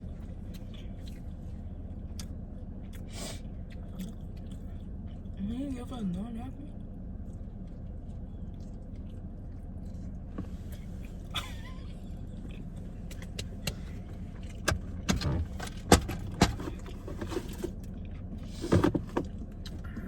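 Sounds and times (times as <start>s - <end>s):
car cabin hum: 3.6s - 20.0s.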